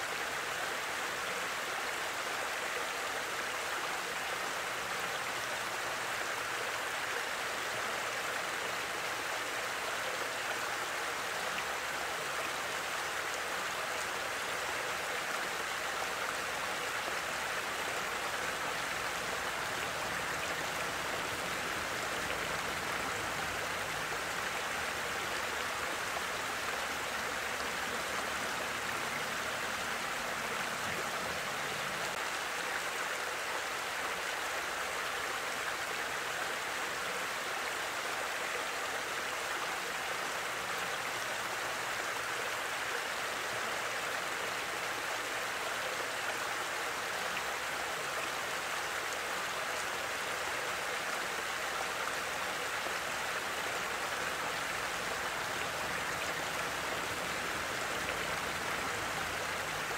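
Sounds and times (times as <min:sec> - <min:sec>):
water rushing over a weir: 0:00.0 - 0:59.9.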